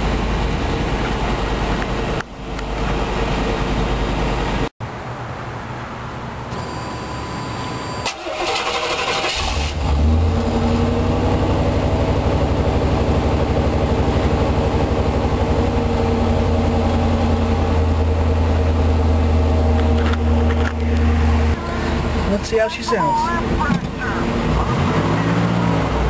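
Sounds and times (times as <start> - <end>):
car engine starting and idling: 0.0 - 26.0.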